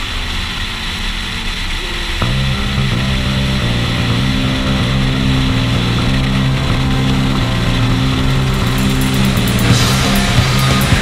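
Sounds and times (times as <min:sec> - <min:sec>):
motorcycle engine at speed: 0:00.0 - 0:11.0
music with held notes: 0:02.2 - 0:11.0.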